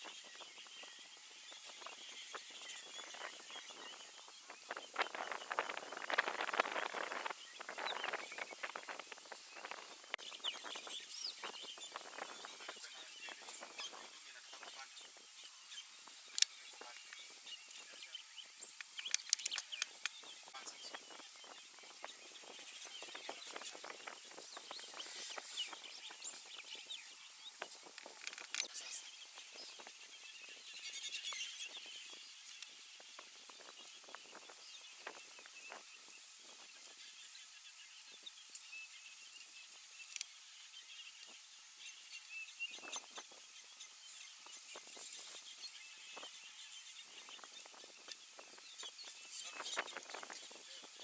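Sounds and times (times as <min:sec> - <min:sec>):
birds chirping faintly: 0:00.0 - 0:51.0
thin high-pitched whine: 0:00.0 - 0:51.0.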